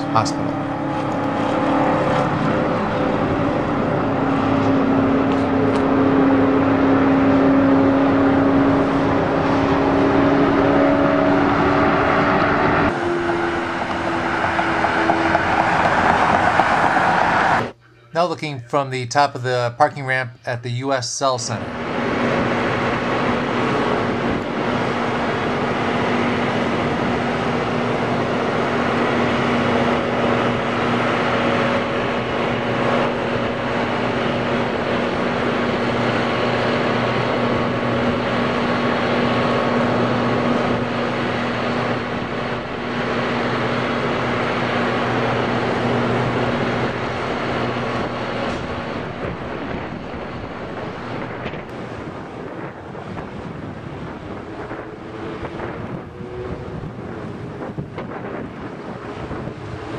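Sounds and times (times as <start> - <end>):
mechanical drone: 0.0 - 18.2, 19.1 - 59.9.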